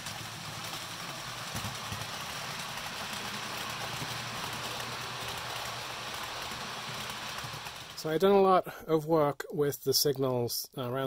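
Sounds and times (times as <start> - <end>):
model train running on track: 0.0 - 8.9.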